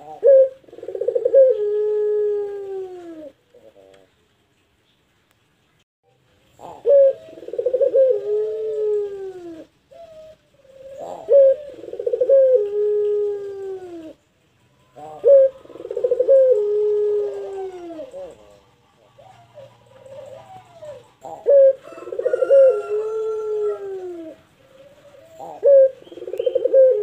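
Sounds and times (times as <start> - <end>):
dove cooing: 0.0 - 4.2, 6.6 - 14.2, 14.8 - 27.0.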